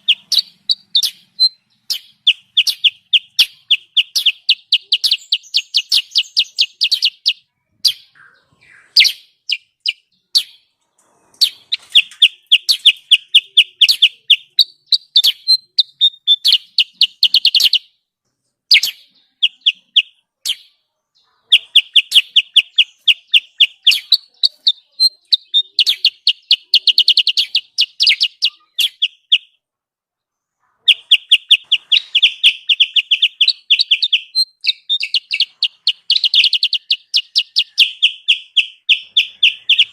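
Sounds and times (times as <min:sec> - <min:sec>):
bird chattering high chirps: 0:00.0 - 0:18.0, 0:18.7 - 0:29.6, 0:30.5 - 0:39.9.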